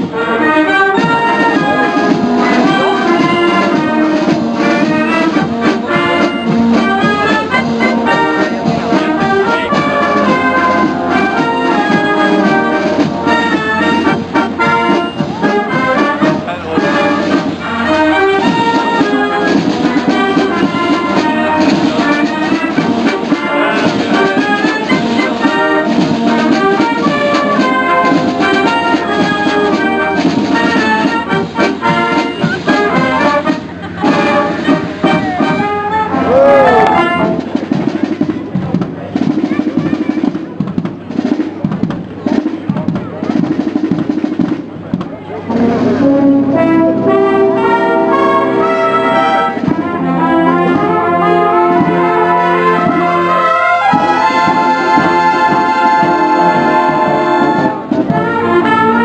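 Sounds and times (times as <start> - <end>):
brass band playing: 0.0 - 59.0
snare drums: 0.0 - 59.0.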